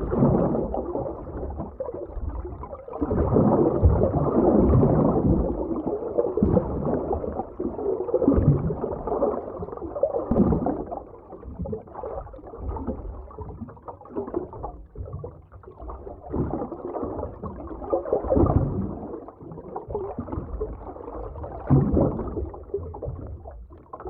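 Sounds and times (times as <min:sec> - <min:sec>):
gurgling bubbles: 0:00.0 - 0:24.0
underwater water movement: 0:00.0 - 0:24.0.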